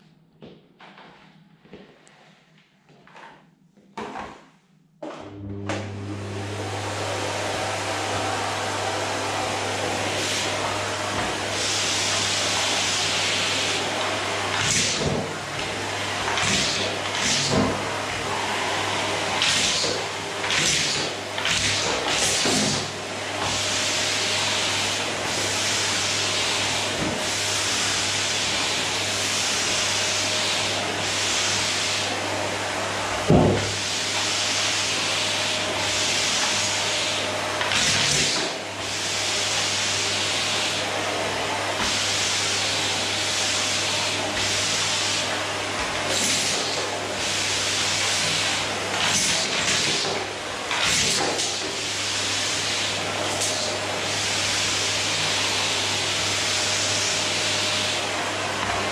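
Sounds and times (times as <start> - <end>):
vacuum cleaner running: 5.0 - 58.9.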